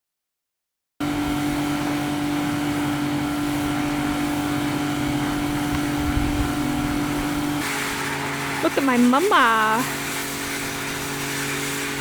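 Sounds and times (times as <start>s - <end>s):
engine hum: 1.0s - 12.0s.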